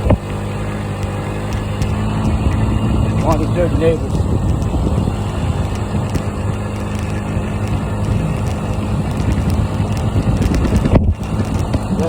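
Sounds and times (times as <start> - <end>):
scooter engine running: 0.0 - 12.0
wind buffeting microphone: 0.0 - 12.0.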